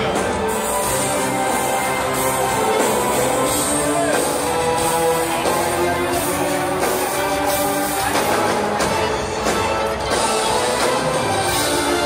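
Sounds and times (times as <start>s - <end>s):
loud live band music: 0.0s - 12.0s.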